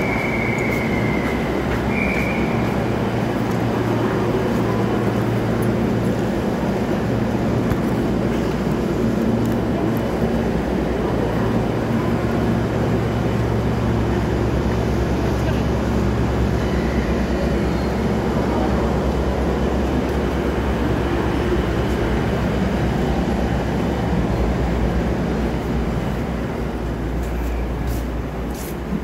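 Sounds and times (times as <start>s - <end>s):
passengers bustling: 0.0s - 29.0s
train low hum: 0.0s - 29.0s.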